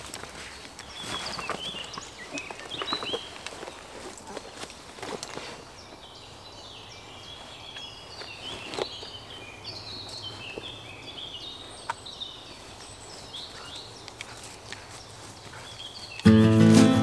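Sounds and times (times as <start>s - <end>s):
birds singing: 0.4s - 4.6s, 5.6s - 17.0s.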